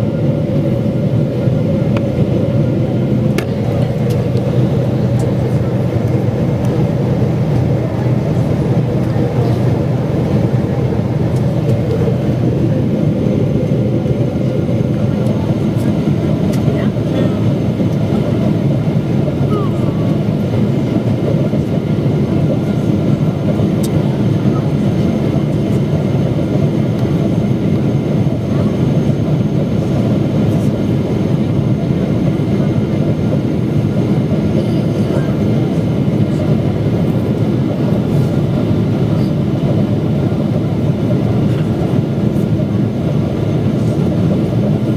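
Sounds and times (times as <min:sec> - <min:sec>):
jet engine rumble in cabin: 0:00.0 - 0:44.9.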